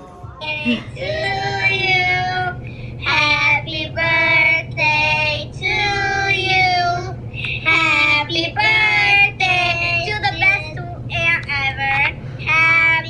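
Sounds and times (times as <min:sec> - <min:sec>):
low steady hum: 0:00.0 - 0:13.0
girls singing through phone speaker: 0:00.2 - 0:13.0.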